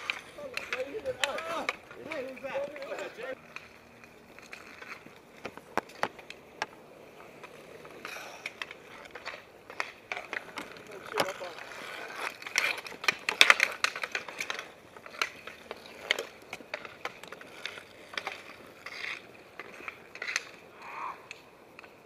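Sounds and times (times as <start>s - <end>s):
hockey sticks clacking: 0.0s - 22.0s
skate wheels rolling on pavement: 0.0s - 22.0s.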